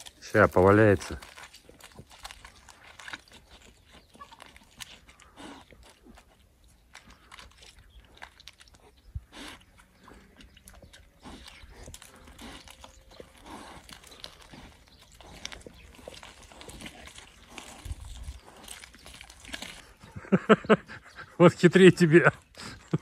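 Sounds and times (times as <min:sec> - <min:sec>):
pigs crunching and biting: 0:00.0 - 0:23.0.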